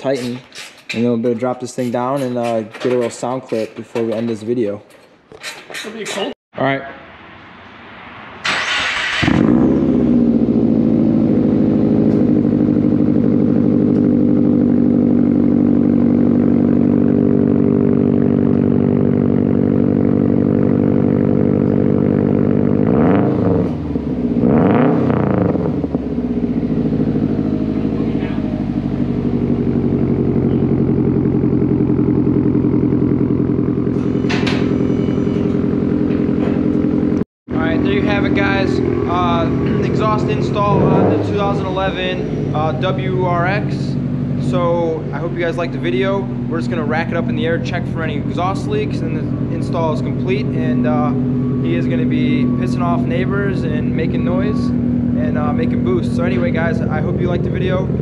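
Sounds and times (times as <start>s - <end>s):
car engine starting and revving: 7.8s - 58.0s.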